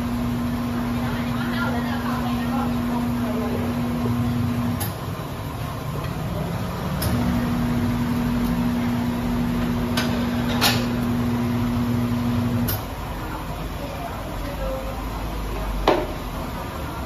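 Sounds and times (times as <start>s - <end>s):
tyre changer motor humming: 0.0s - 17.0s.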